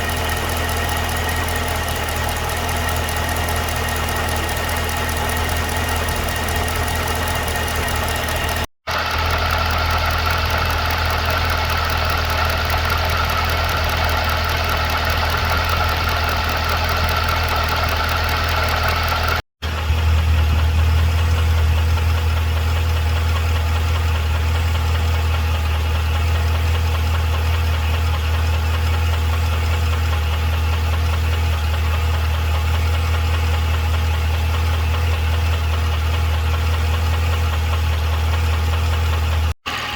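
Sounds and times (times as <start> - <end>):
car engine idling with ticking: 0.0 - 39.9.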